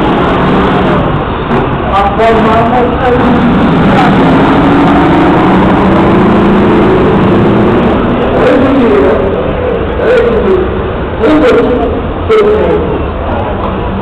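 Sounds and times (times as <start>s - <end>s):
truck engine under throttle: 0.0s - 14.0s.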